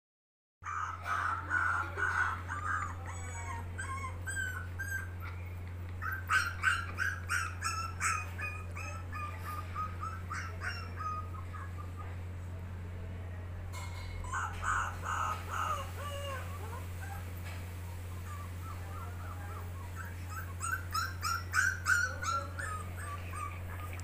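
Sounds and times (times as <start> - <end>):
steady low hum: 0.6 - 24.0
puppy whimpering and yipping: 0.7 - 12.1, 14.2 - 24.0.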